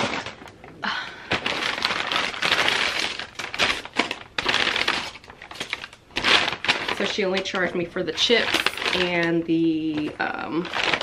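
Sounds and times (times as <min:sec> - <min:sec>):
paper and plastic crinkling: 0:00.0 - 0:11.0.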